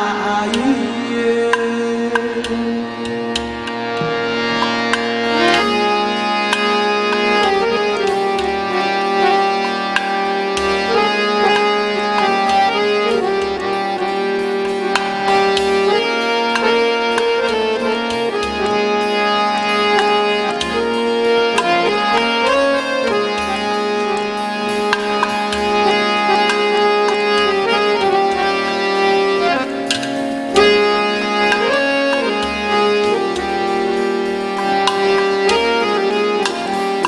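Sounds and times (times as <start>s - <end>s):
harmonica melody: 0.0s - 37.0s
low pulsing beat: 0.0s - 37.0s.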